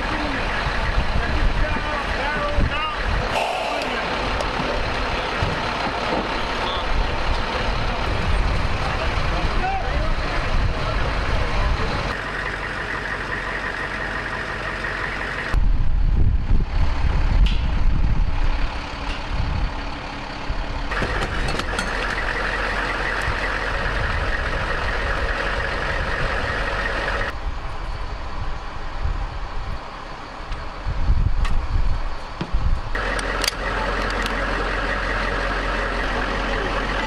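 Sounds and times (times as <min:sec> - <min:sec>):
truck engine deep rumble: 0:00.0 - 0:37.0
truck engine whine: 0:00.0 - 0:37.0.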